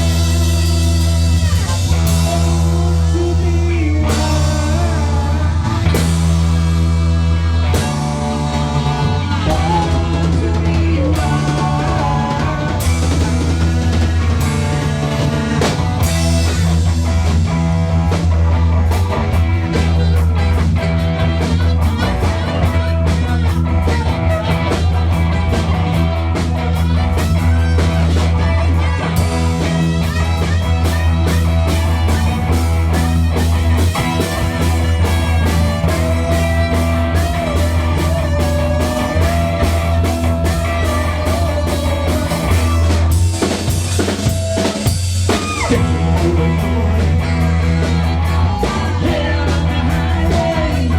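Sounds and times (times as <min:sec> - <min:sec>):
rock music: 0:00.0 - 0:50.9.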